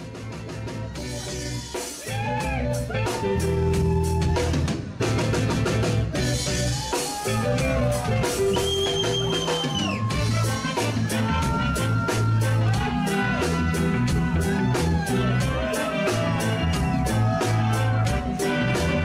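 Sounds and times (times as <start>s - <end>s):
reggae band music: 0.0s - 19.0s.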